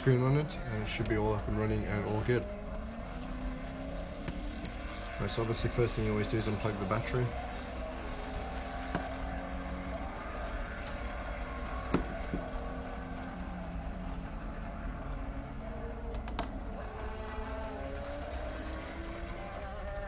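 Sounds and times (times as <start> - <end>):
race car engine: 0.0 - 20.0.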